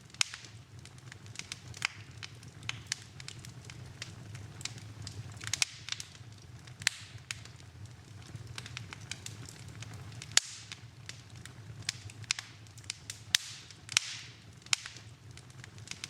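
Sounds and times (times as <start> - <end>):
sharp pops from fire: 0.0 - 16.0
wood fire crackling: 0.0 - 16.0.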